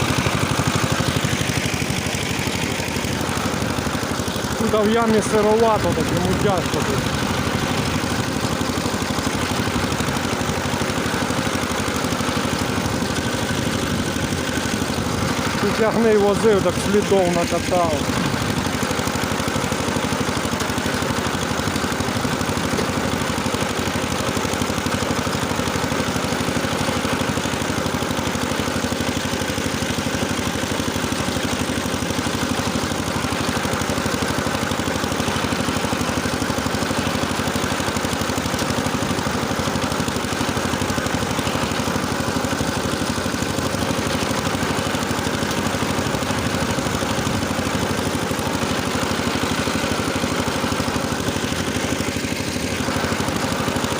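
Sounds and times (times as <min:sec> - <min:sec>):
tractor engine running under load: 0:00.0 - 0:53.9.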